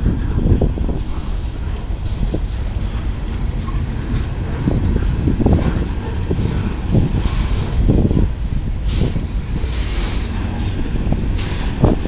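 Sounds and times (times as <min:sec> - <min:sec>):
freight train wheels rumbling: 0:00.0 - 0:12.0
sharp knocks of train cars: 0:01.8 - 0:12.0.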